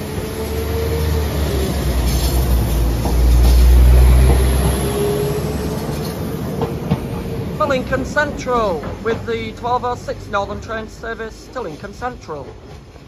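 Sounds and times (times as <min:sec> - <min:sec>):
diesel train engine rumble: 0:00.0 - 0:13.0.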